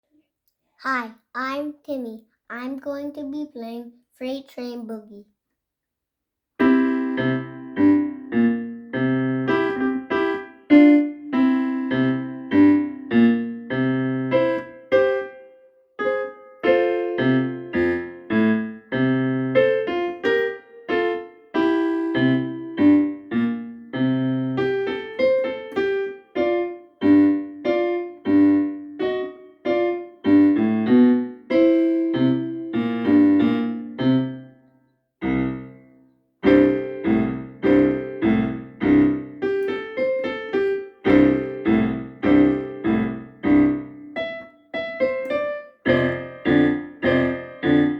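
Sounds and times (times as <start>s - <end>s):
boogie piano piece: 6.6s - 34.6s, 35.2s - 47.9s.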